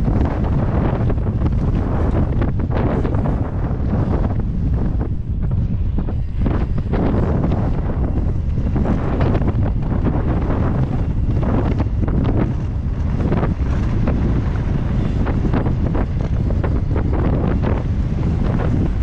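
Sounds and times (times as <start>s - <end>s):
bike and tyres clattering: 0.0s - 19.0s
wind buffeting microphone: 0.0s - 19.0s.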